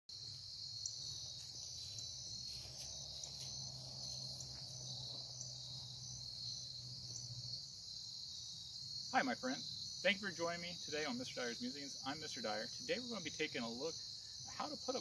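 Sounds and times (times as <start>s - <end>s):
crickets chirring: 0.1s - 15.0s.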